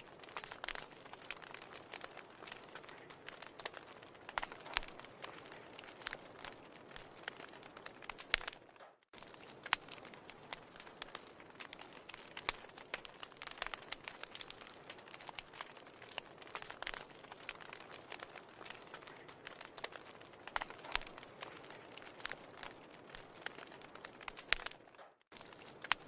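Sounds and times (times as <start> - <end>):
fire hissing: 0.0 - 8.5, 9.2 - 24.6
wood fire crackling: 0.0 - 26.0.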